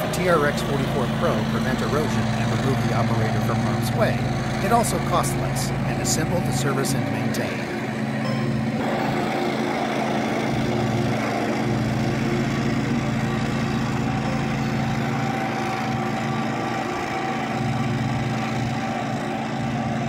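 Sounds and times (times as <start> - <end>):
mower engine running: 0.0 - 20.0.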